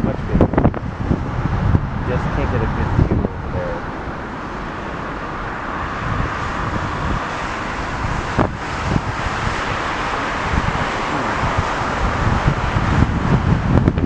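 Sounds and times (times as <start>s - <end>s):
steady rushing noise: 0.0s - 14.0s
wind buffeting microphone: 0.0s - 14.0s.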